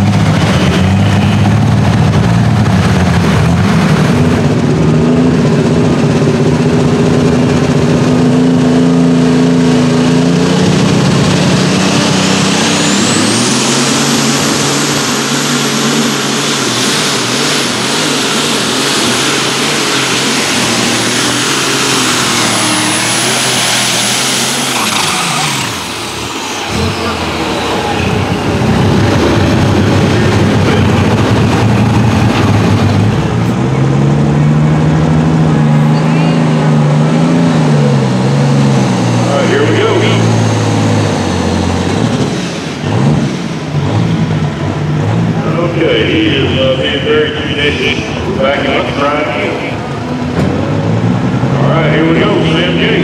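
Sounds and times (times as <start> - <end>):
diesel tractor engines at full throttle: 0.0 - 53.0
turbocharger high whine: 0.0 - 53.0.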